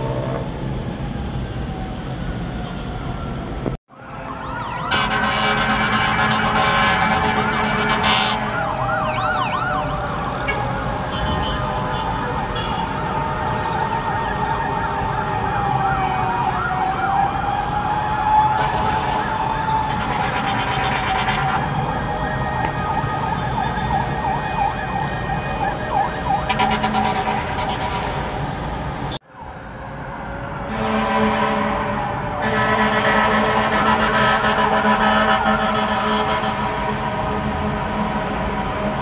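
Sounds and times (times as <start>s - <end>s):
siren yelp: 0.0s - 28.3s, 29.1s - 39.0s
siren wail: 0.0s - 39.0s.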